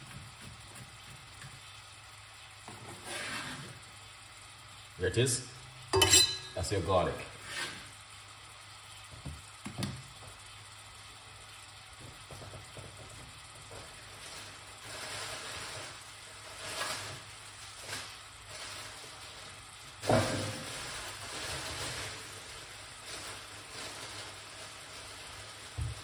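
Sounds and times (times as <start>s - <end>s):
vegetables sizzling in a pot: 0.0s - 26.0s.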